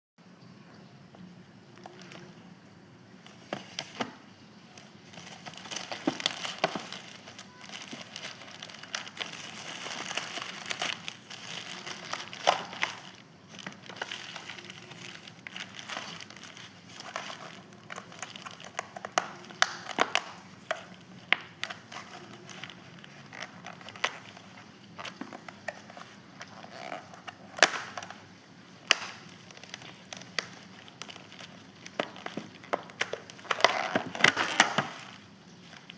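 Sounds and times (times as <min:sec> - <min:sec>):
packaging crinkling and crumpling: 0:01.7 - 0:02.5, 0:03.2 - 0:35.9.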